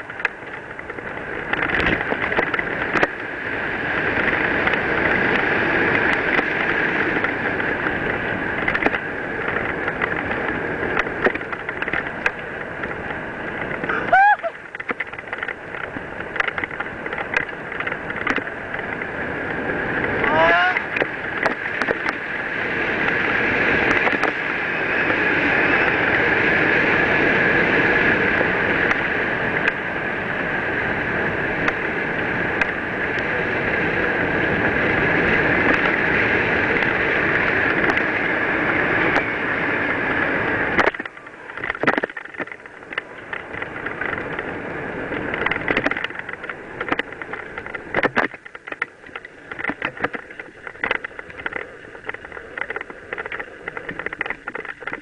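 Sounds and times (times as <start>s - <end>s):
bike rattling over bumps: 0.0s - 55.0s
wind noise on microphone: 0.0s - 55.0s.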